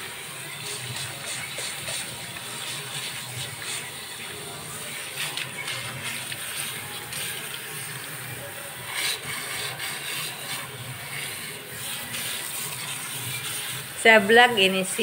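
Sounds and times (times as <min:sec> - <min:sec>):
water spraying from shower head: 0:00.0 - 0:15.0.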